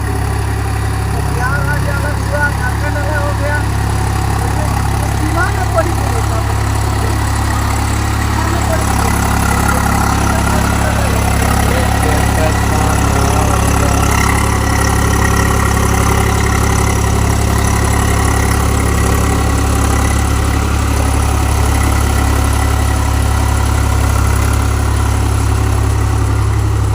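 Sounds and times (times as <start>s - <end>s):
tractor engine idling: 0.0s - 26.9s.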